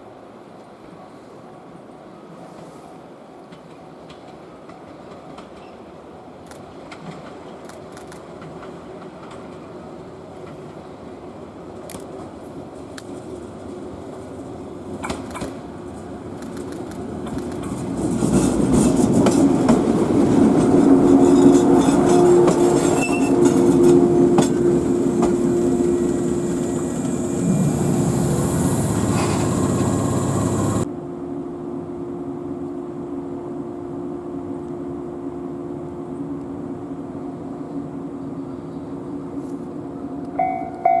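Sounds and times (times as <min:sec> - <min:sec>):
train running on rails: 0:00.0 - 0:41.0.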